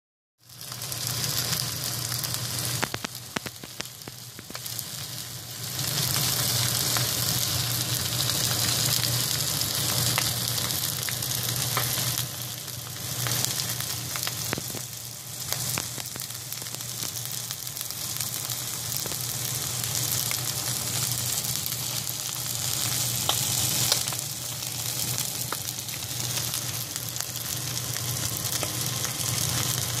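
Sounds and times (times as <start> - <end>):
fish frying in oil: 0.4 - 30.0.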